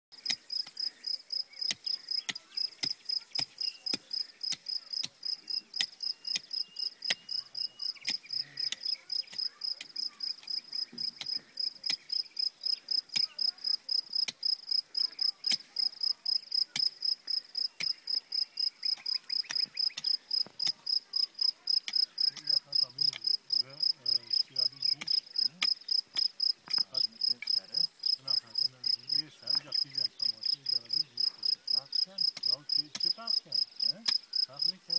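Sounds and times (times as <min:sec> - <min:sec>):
cricket chirping: 0:00.2 - 0:34.9.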